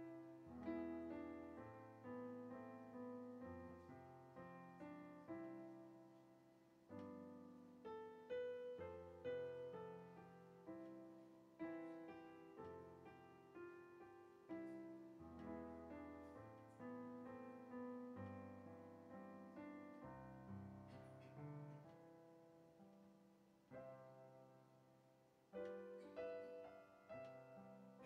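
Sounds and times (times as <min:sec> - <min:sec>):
soft slow piano music: 0:00.0 - 0:28.0.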